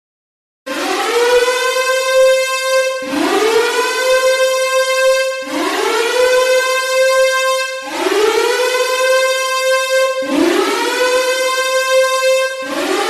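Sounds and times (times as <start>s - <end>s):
warning siren wailing: 0.7s - 13.0s.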